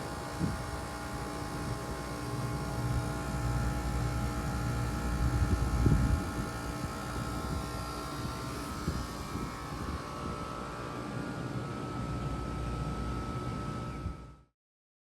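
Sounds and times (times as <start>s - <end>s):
air conditioner humming: 0.0s - 14.1s.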